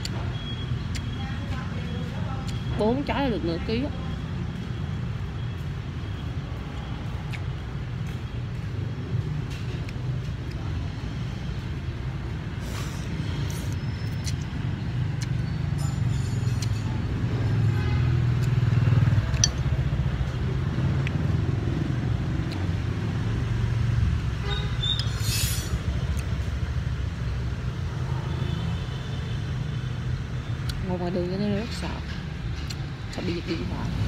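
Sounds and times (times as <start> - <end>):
passing traffic engines rumbling: 0.0 - 34.0.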